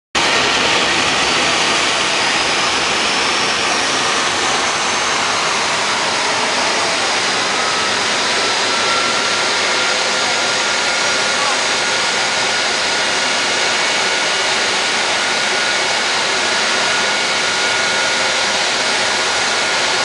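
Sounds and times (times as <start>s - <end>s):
jet turbine engines roaring: 0.2s - 20.0s.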